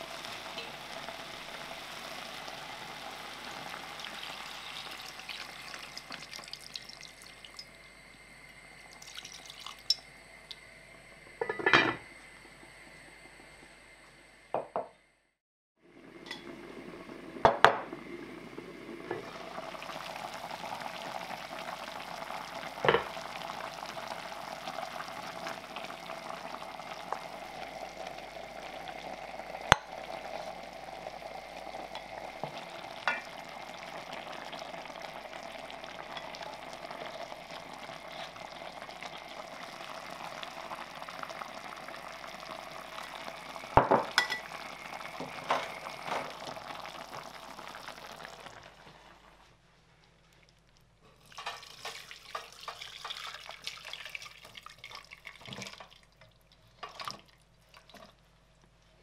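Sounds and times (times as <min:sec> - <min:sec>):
broth bubbling at a simmer: 0:00.0 - 0:10.8, 0:15.8 - 0:49.4, 0:50.0 - 0:59.0.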